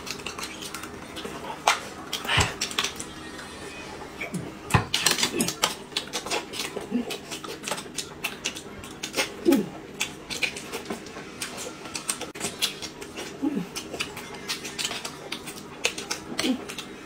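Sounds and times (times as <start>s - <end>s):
wet chewing and lip smacks: 0.0s - 3.1s, 4.2s - 17.0s.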